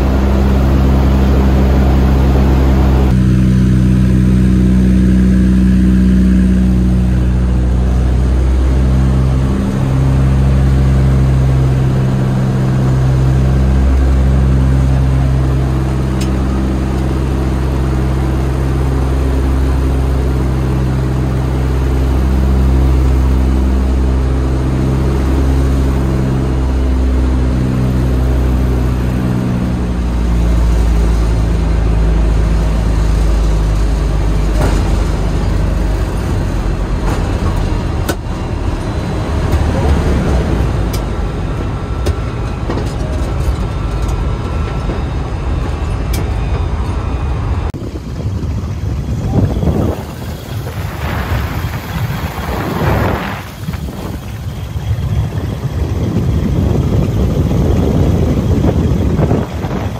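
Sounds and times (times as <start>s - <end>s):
propeller plane engines droning: 0.0s - 59.9s.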